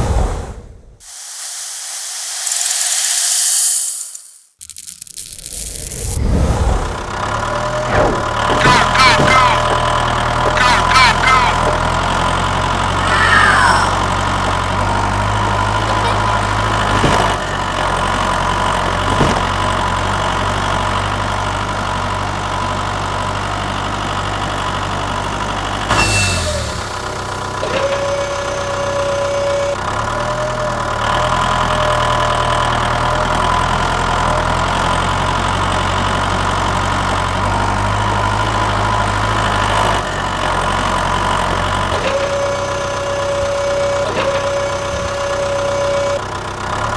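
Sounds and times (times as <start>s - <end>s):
engine idling: 6.7s - 46.9s.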